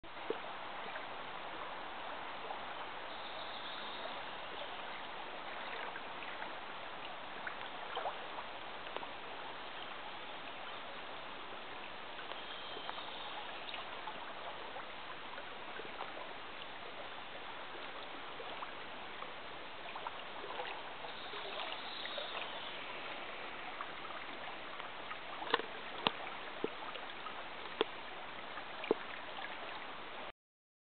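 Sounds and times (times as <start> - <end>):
river water rushing: 0.1 - 30.3.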